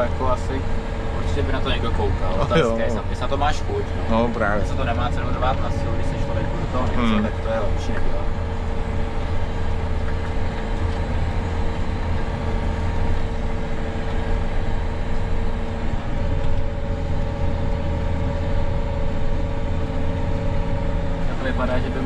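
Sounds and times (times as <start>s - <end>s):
steady engine whine: 0.0s - 22.0s
tractor diesel engine droning: 0.0s - 22.0s.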